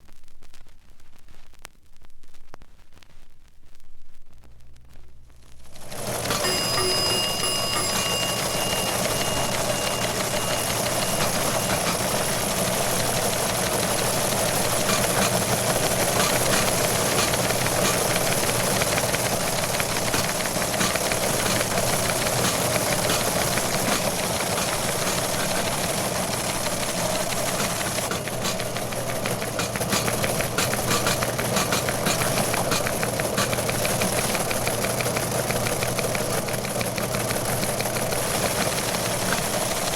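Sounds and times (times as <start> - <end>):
engine with fast knocking beat: 5.8 - 39.9.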